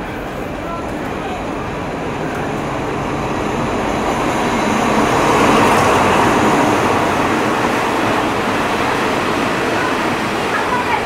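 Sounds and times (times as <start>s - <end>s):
diesel locomotive passing: 0.0s - 11.0s.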